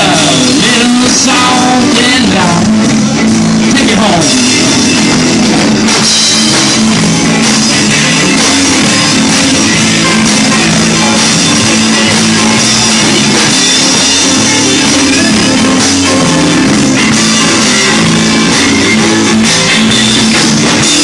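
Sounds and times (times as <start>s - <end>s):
bass guitar: 0.0s - 21.0s
drum kit: 0.0s - 21.0s
electric guitars: 0.0s - 21.0s.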